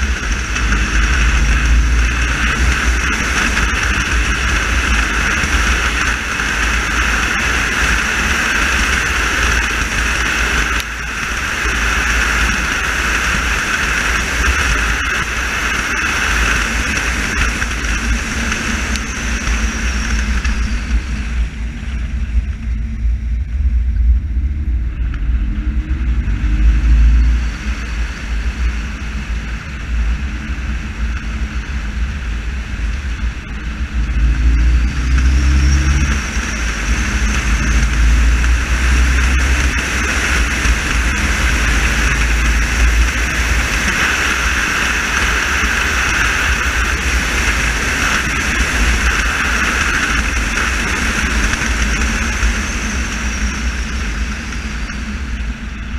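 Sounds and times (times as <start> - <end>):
low car rumble: 0.0 - 55.9.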